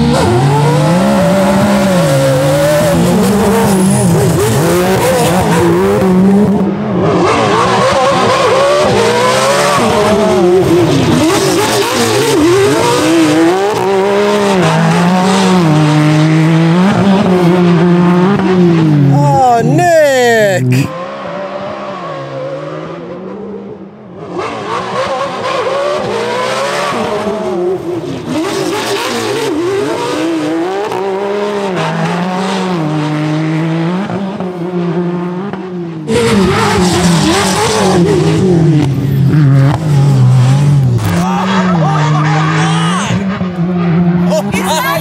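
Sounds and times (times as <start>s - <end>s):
racing engines at high revs: 0.0s - 45.0s.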